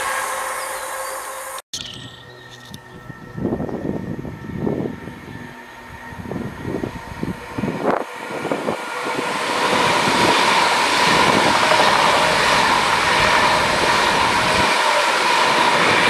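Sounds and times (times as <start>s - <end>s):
train passing at speed: 0.0s - 1.6s, 2.9s - 16.0s
steady high tone: 0.0s - 16.0s.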